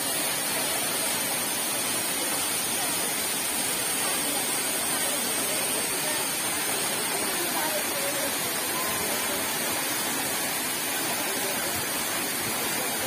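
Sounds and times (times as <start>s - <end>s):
waterfall rushing onto rocks: 0.0s - 13.0s.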